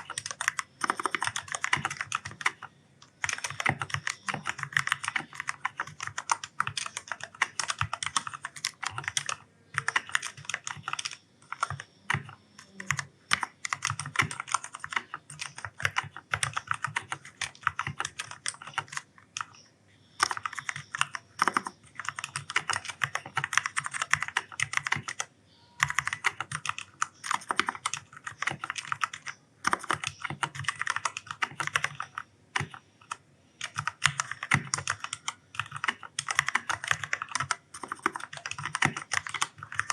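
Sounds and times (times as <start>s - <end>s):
fast mechanical keyboard typing: 0.0s - 19.6s, 20.2s - 39.9s.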